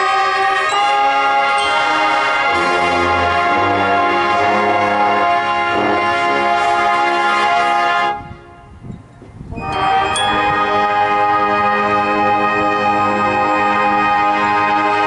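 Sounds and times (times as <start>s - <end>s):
marching band holding chords: 0.0s - 8.7s, 9.7s - 15.0s.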